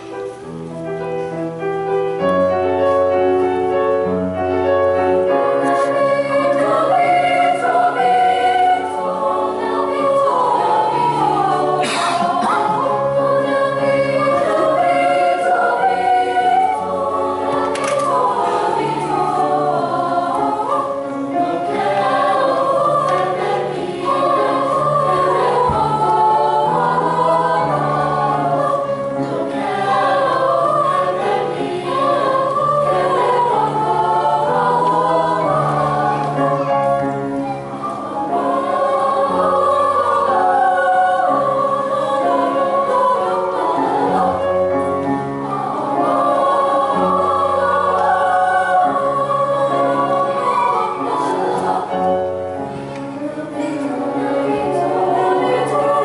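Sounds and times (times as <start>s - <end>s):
choir singing sustained chords: 1.4s - 56.0s.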